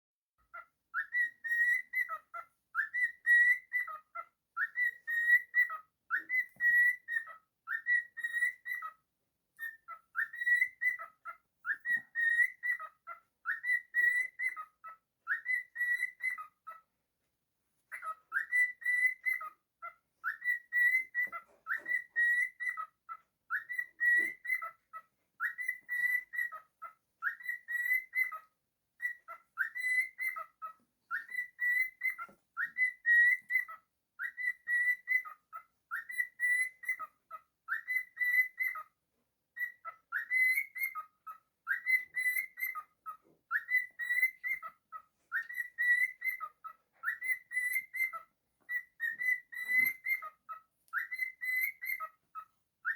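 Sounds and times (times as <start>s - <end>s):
cockatiel whistling a tune: 0.5s - 9.0s, 9.6s - 16.8s, 17.9s - 52.9s.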